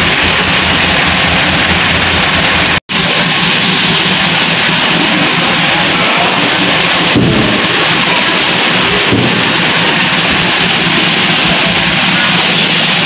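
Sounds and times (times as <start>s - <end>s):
heavy rain hissing: 0.0s - 13.0s
tractor diesel engine running: 0.0s - 13.0s.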